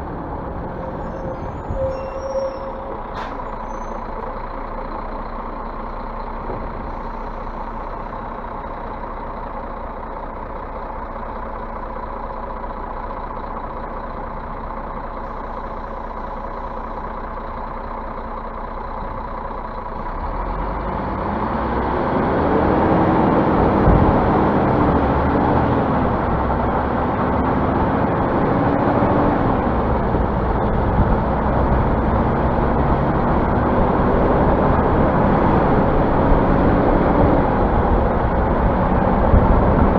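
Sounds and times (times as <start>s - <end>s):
diesel bus engine idling and revving: 0.0s - 39.9s.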